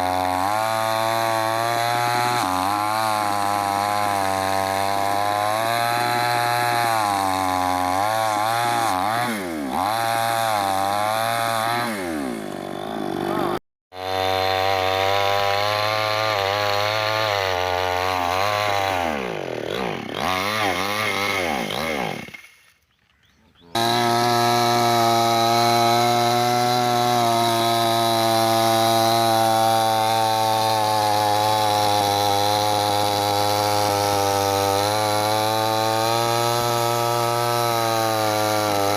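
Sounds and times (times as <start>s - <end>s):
chainsaw cutting wood: 0.0s - 23.0s, 23.7s - 38.9s.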